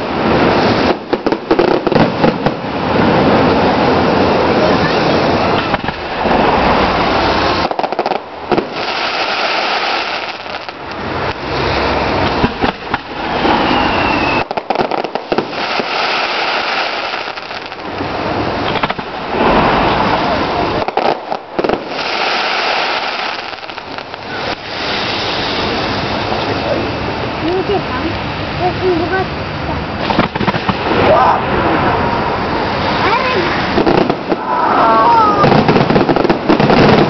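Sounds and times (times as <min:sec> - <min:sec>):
fireworks whistling: 0:00.0 - 0:26.9, 0:30.0 - 0:31.8, 0:32.4 - 0:37.0
fireworks crackling and banging: 0:00.0 - 0:37.0.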